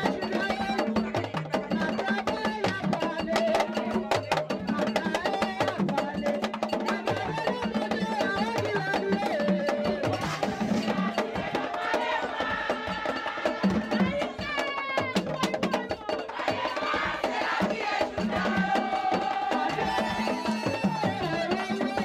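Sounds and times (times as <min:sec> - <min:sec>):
group singing: 0:00.0 - 0:22.0
sharp clicking percussion: 0:00.0 - 0:22.0.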